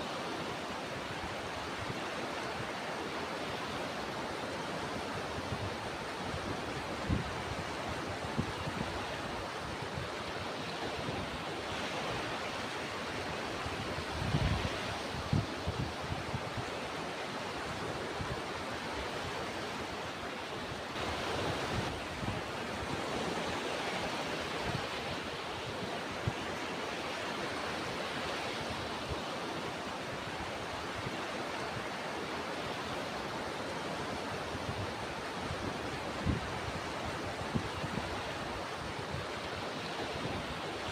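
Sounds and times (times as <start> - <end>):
ocean surf washing: 0.0 - 40.9.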